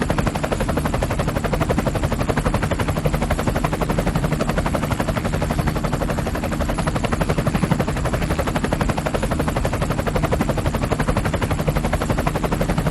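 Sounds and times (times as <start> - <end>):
helicopter chopping effect: 0.0 - 12.9.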